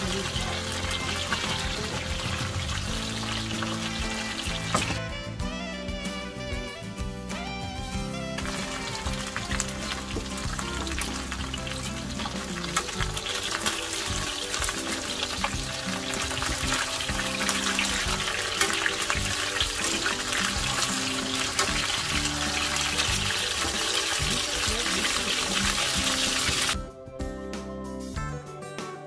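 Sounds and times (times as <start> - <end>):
background music with bass line: 0.0 - 29.0.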